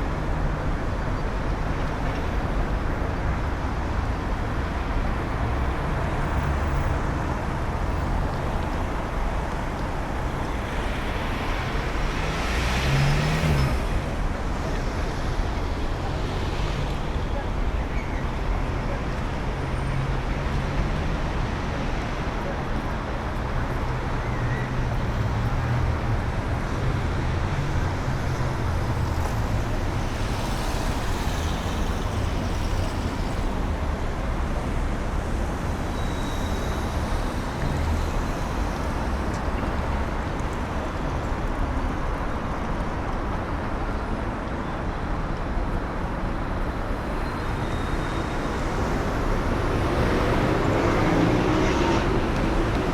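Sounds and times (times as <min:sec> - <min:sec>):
road noise: 0:00.0 - 0:52.9
vehicle engines rumbling: 0:00.0 - 0:52.9.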